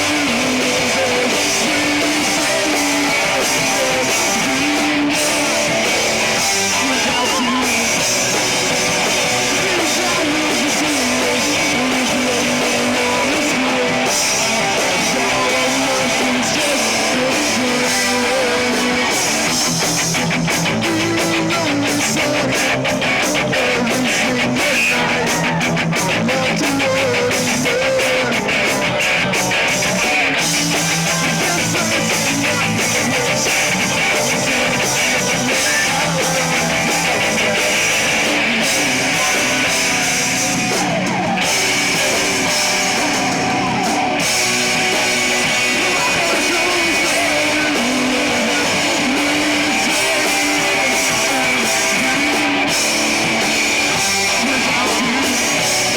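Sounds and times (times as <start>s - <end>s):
live rock band playing: 0.0s - 55.9s
rapid drum and cymbal hits: 0.0s - 55.9s.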